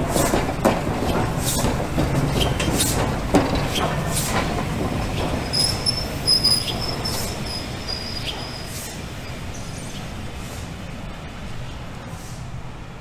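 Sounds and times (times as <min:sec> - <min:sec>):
steam locomotive rumble: 0:00.0 - 0:13.0.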